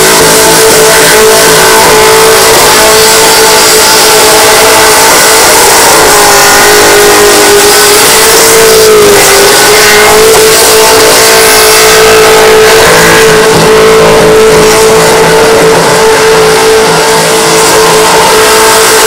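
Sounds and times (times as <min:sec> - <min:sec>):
car engine revving loudly: 0:00.0 - 0:19.0.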